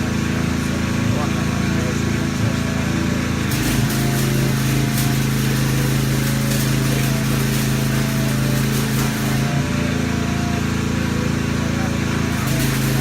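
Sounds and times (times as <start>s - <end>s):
welding arc crackling hiss: 0.0s - 13.0s
welding machine engine running: 0.0s - 13.0s.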